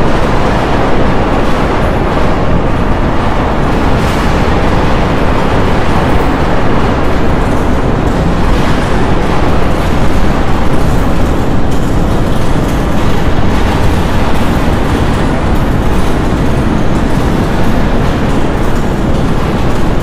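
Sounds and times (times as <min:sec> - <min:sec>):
storm surf on shingle beach: 0:00.0 - 0:20.0
wind: 0:00.0 - 0:20.0.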